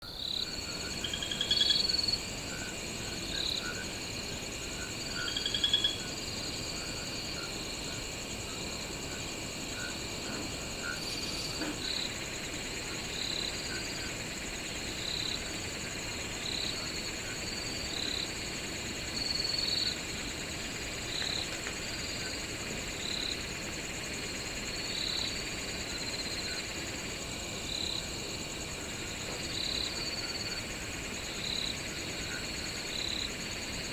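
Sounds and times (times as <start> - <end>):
crickets trilling: 0.0 - 33.9
frogs chirping: 0.0 - 33.9.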